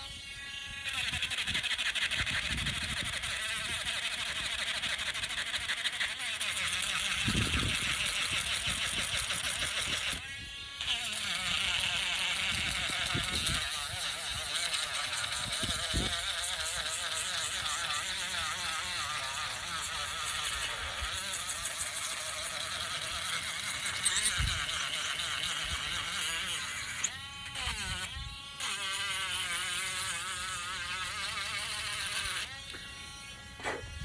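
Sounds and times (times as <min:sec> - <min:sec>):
electric sander whining: 0:00.0 - 0:34.0.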